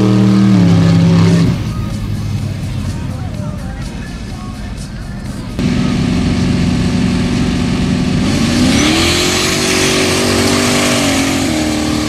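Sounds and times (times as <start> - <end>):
buggy engine revving high: 0.0 - 4.7, 5.3 - 12.0.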